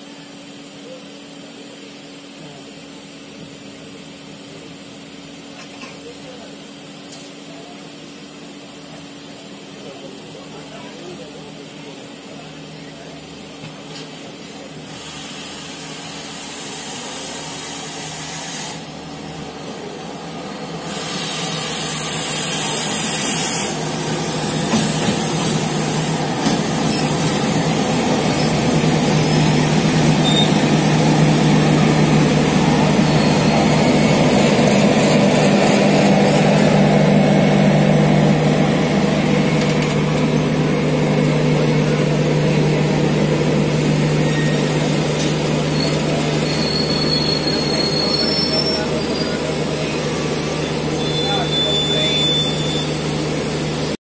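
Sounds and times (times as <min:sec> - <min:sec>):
diesel locomotive engine: 0:00.0 - 0:54.0
train coaches rolling by: 0:04.1 - 0:54.0.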